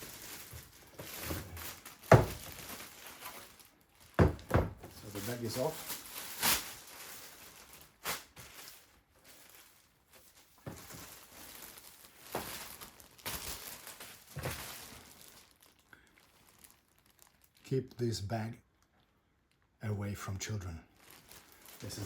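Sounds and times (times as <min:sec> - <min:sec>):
plastic bag crinkling: 0:00.0 - 0:18.0, 0:20.9 - 0:22.0.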